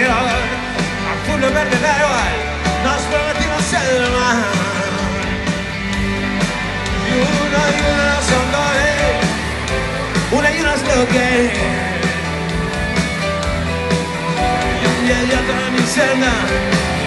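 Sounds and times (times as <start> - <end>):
man singing lead: 0.0 - 5.7, 6.9 - 12.6, 13.9 - 17.0
bass guitar: 0.0 - 17.0
drums: 0.0 - 17.0
electric guitar: 0.0 - 17.0.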